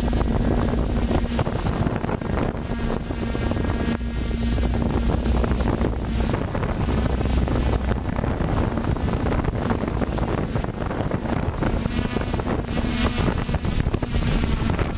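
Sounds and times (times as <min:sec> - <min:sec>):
drone propellers buzzing: 0:00.0 - 0:14.9
wind rush on microphone: 0:00.0 - 0:14.9.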